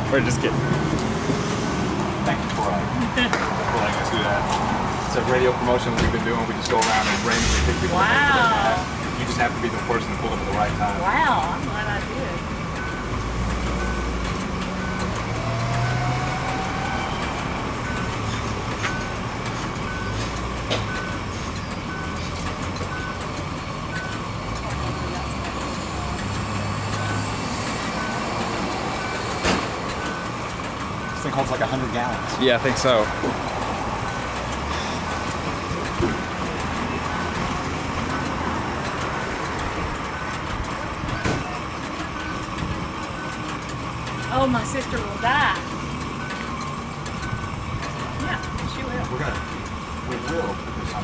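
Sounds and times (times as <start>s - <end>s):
road traffic: 0.0s - 51.0s.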